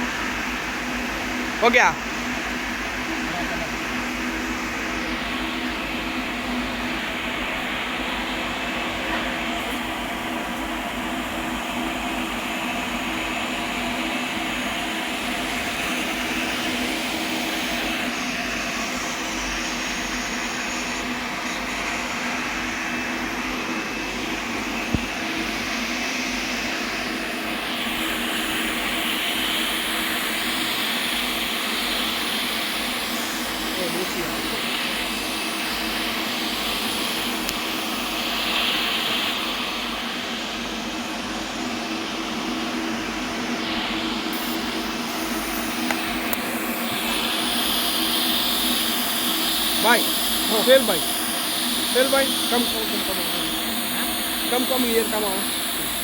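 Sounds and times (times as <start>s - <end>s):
industrial machinery drone: 0.0s - 56.0s.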